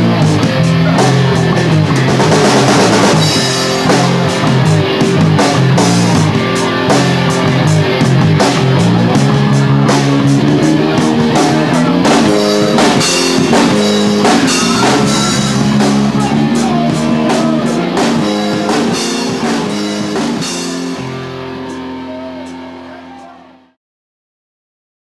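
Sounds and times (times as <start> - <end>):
live rock band playing: 0.0 - 23.0
drum and cymbal hits: 0.2 - 22.0.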